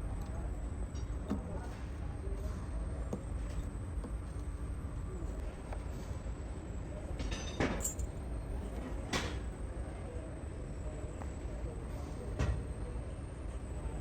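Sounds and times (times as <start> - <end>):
workshop rumble: 0.0 - 14.0.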